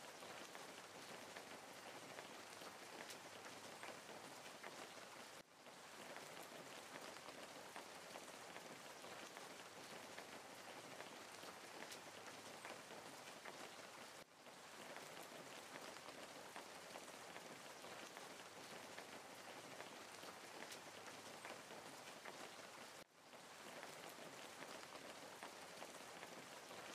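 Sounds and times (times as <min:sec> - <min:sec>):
steady rain patter: 0:00.0 - 0:26.9.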